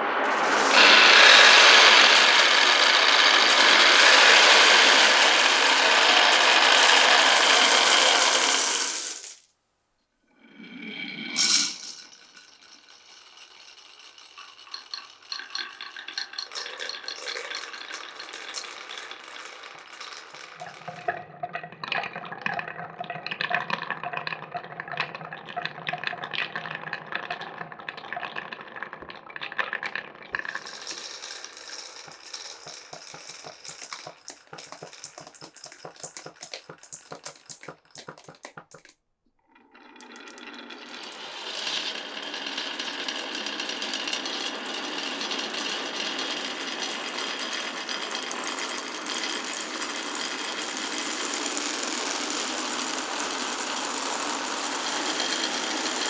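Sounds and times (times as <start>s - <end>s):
low rolling sound: 0.0s - 9.4s, 10.9s - 38.9s, 39.6s - 56.0s
marbles rolling on wooden tracks: 0.0s - 9.4s, 10.8s - 56.0s
marbles clattering in wooden run: 0.2s - 9.4s, 11.3s - 56.0s.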